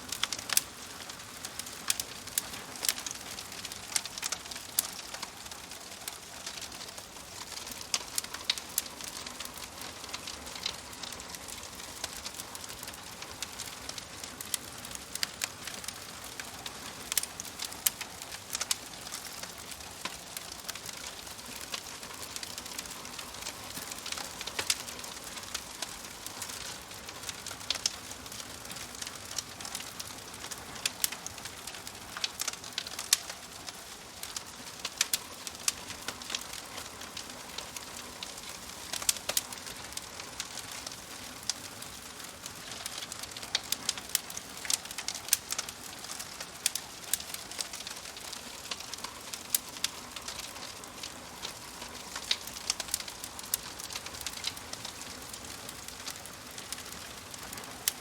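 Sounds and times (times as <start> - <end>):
wood fire crackling in stove: 0.0 - 58.0.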